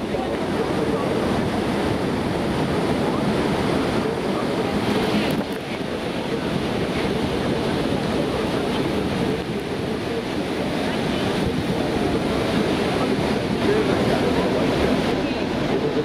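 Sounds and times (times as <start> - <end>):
river water churning: 0.0 - 16.0
waterfall rushing: 0.0 - 16.0
wind buffeting microphone: 0.0 - 16.0.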